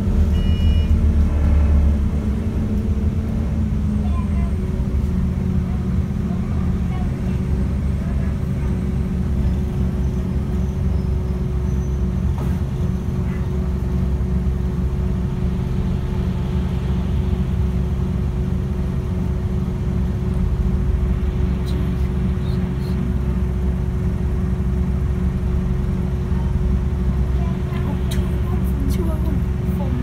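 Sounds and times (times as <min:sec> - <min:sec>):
bus engine idling: 0:00.0 - 0:30.0.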